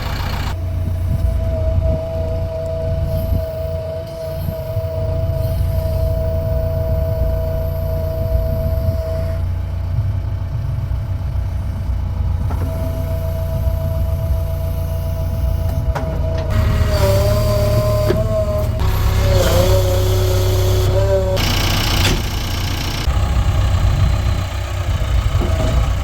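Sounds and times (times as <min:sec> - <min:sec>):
heavy diesel engine rumbling: 0:00.0 - 0:26.0.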